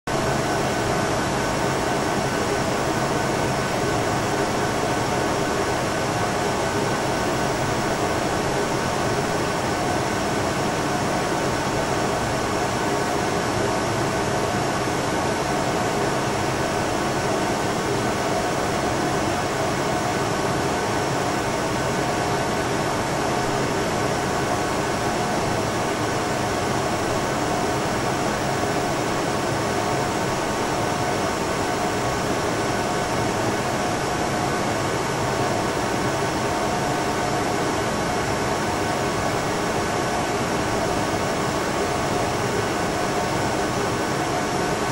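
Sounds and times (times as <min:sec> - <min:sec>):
air conditioner fan hiss: 0:00.1 - 0:44.9
faint steady hum: 0:00.2 - 0:44.9.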